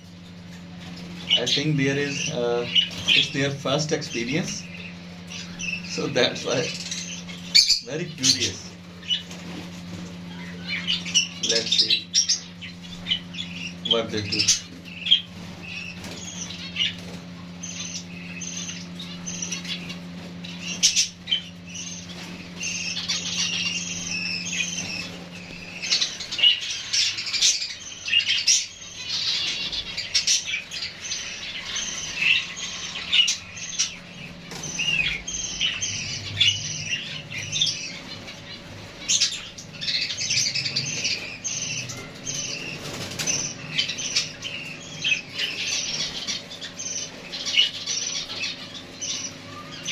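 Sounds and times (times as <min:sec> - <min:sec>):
finches chirping: 0:00.0 - 0:49.9
low steady hum: 0:00.0 - 0:49.9
wings fluttering: 0:00.0 - 0:49.9.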